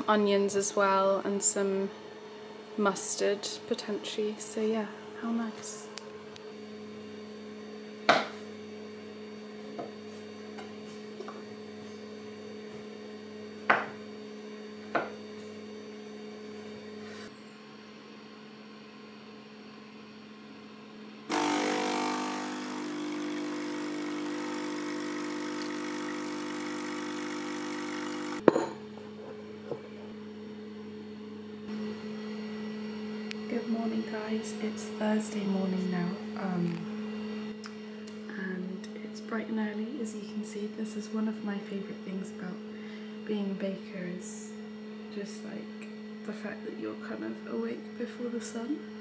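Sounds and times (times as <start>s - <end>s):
kitchen appliance running: 0.0s - 17.6s, 21.3s - 49.0s
electrical hum: 0.0s - 49.0s.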